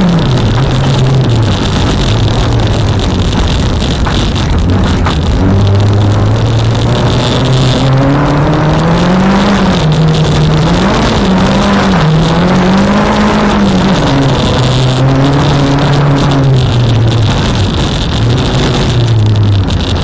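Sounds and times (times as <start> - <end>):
car engine revving: 0.0 - 20.0
tyres on gravel: 0.0 - 20.0.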